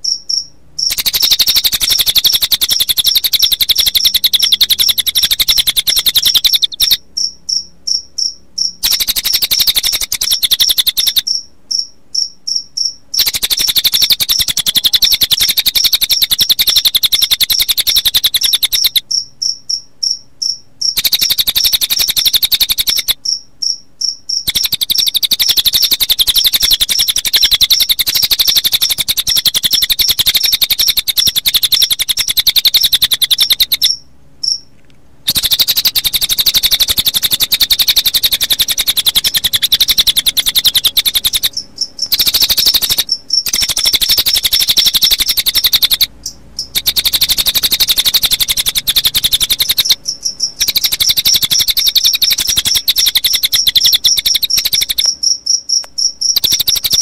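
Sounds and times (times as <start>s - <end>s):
bird song trilling: 0.0s - 34.7s, 35.3s - 57.0s
crickets chirping: 0.0s - 57.0s.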